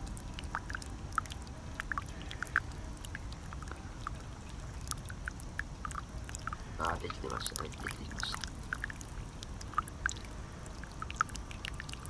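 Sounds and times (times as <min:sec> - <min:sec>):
coffee dripping: 0:00.0 - 0:12.0
low steady rumble: 0:00.0 - 0:12.0.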